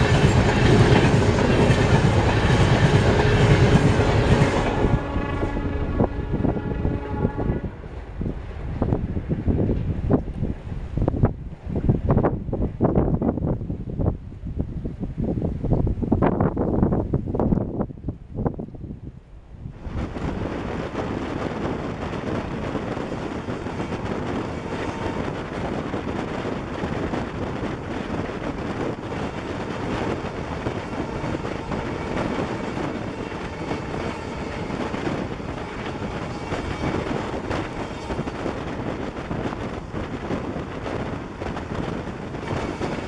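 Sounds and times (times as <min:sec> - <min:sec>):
train wheels rushing on rail: 0:00.0 - 0:14.0, 0:19.8 - 0:43.0
wind on microphone: 0:00.0 - 0:43.0.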